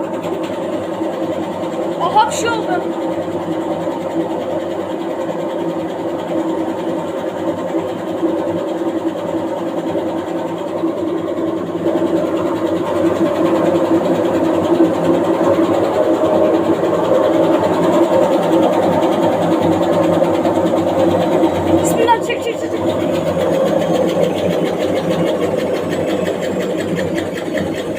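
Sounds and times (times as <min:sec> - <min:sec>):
washing machine humming: 0:00.0 - 0:27.9
washing machine shaking: 0:00.0 - 0:27.9.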